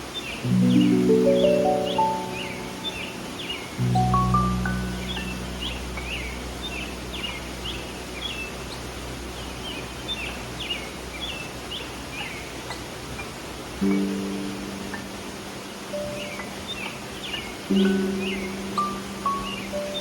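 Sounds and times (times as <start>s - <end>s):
songbird chirping: 0.0s - 20.0s
stream flowing: 0.0s - 20.0s
low sustained music note: 0.4s - 11.6s, 13.8s - 20.0s.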